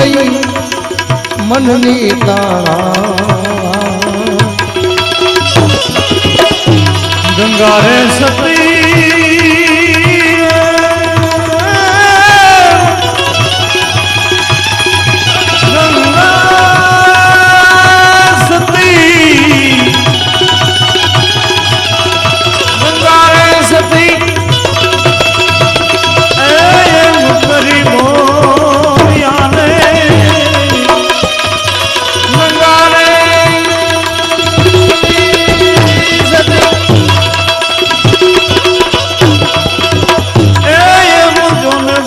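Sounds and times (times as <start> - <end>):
tabla rhythm: 0.0 - 42.0.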